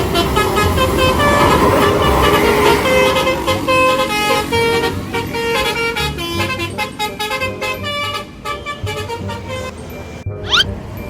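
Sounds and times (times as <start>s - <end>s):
bus musical horn tune: 0.0s - 9.8s.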